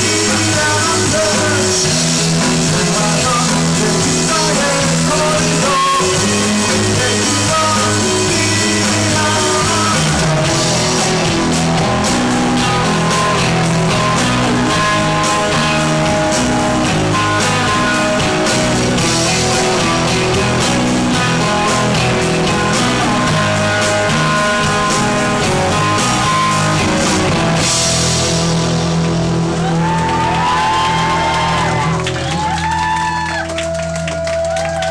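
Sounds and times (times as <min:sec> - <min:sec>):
drum strokes: 0:00.0 - 0:32.1
rock band playing live: 0:00.0 - 0:34.9.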